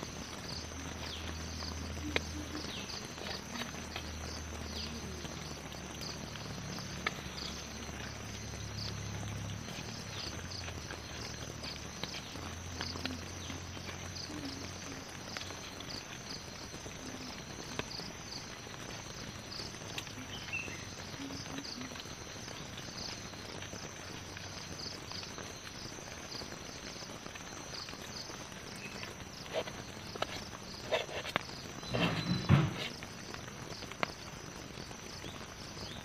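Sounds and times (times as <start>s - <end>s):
insects chirring: 0.0s - 36.0s
rain pattering on a tent: 0.0s - 36.0s.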